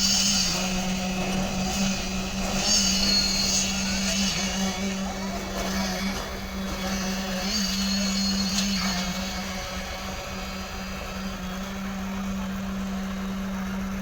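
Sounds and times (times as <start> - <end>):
concrete mixer truck humming: 0.0 - 14.0.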